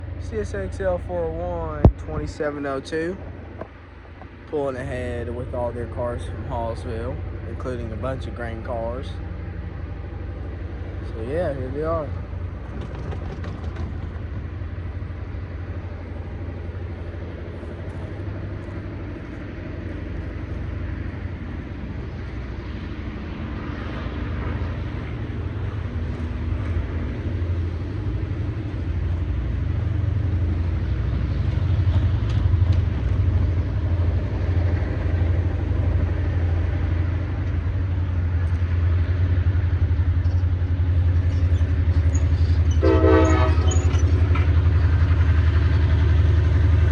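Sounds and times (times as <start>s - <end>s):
diesel locomotive engine: 0.0s - 46.9s.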